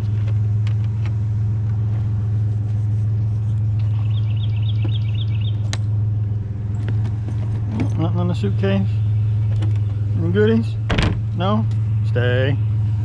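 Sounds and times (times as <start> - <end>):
truck engine humming: 0.0 - 13.0.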